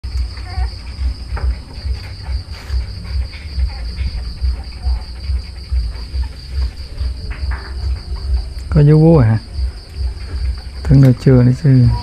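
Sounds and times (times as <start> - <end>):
crickets trilling: 0.0 - 12.0
low rumble: 0.0 - 12.0.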